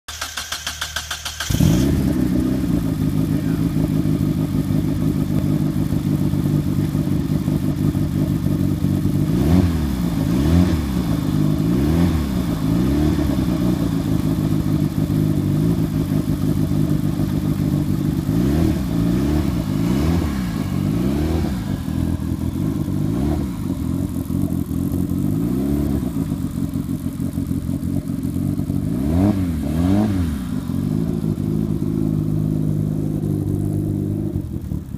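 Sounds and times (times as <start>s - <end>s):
car engine idling: 0.0s - 34.9s
engine revving with throttle blips: 0.1s - 34.9s.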